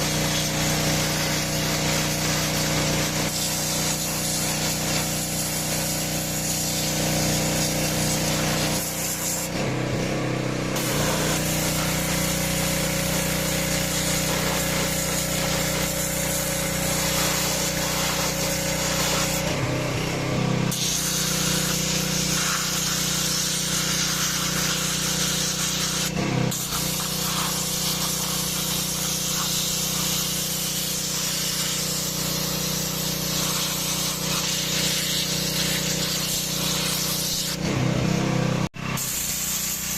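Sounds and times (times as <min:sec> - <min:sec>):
high-pressure water jet hissing: 0:00.0 - 0:39.9
pressure washer engine running: 0:00.0 - 0:39.9.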